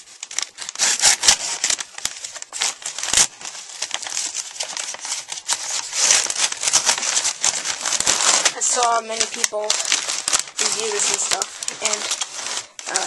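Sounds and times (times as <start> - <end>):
envelope crinkling and crackling: 0.0 - 13.0.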